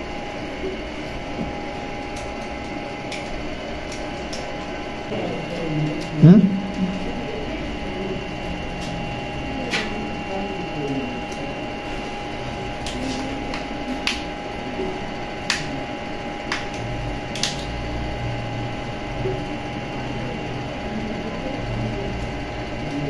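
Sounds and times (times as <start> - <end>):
steady hum with high whine: 0.0 - 23.0.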